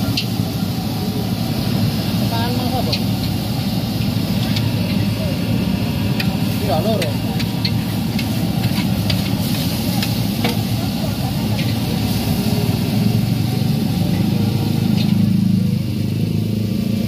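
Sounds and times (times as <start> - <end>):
burner roaring: 0.0 - 17.0
noodles stir-frying in wok: 0.0 - 17.0.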